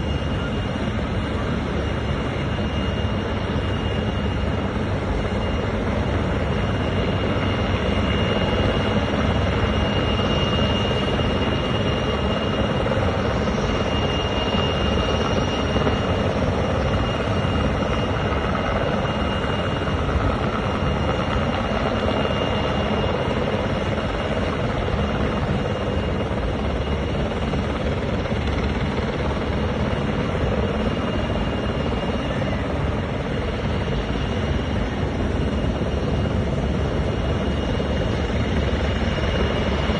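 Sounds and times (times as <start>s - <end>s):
helicopter rotor: 0.0s - 39.9s.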